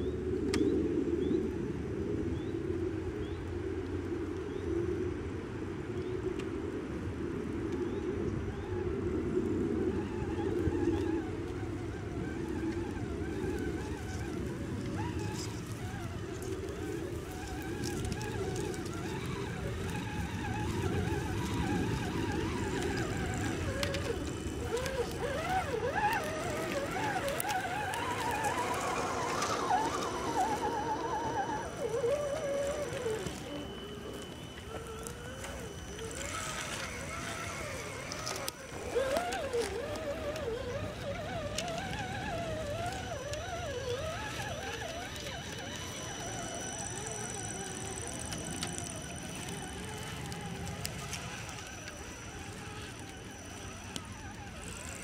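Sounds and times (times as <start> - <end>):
toy truck electric motors whining: 9.7 - 55.0.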